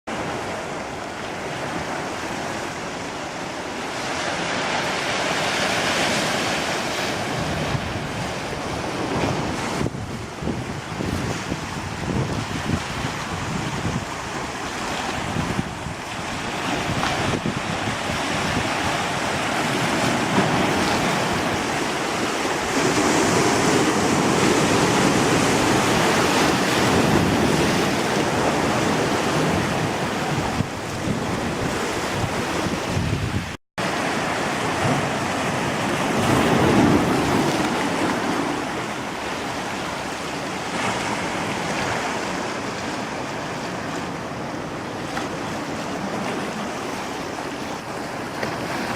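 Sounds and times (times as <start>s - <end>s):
sea surf washing onto beach: 0.1s - 48.9s
wind buffeting microphone: 5.9s - 48.9s.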